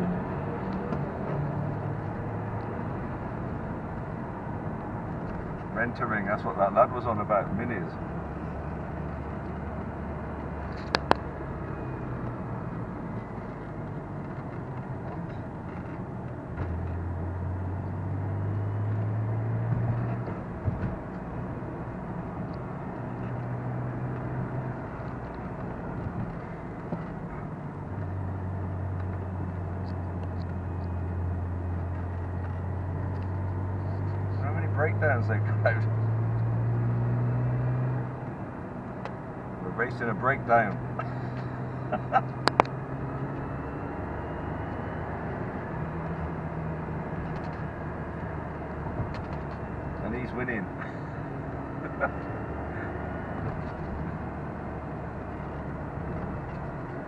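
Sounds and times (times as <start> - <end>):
car engine accelerating: 0.0 - 57.0
tyre and road noise: 0.0 - 57.0.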